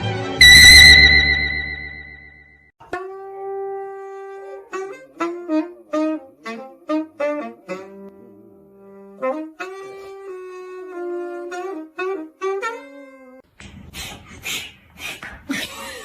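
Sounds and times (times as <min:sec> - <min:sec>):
saxophone melody: 0:00.4 - 0:13.4.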